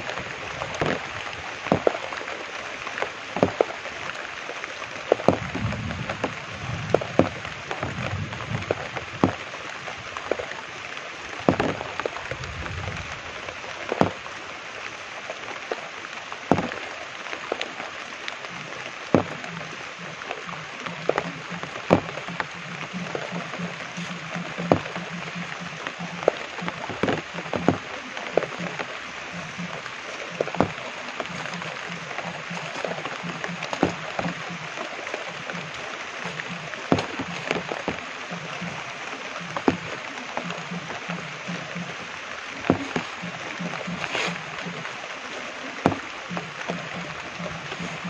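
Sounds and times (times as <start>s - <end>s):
large raindrops tapping: 0.0s - 48.0s
steady rain hissing: 0.0s - 48.0s.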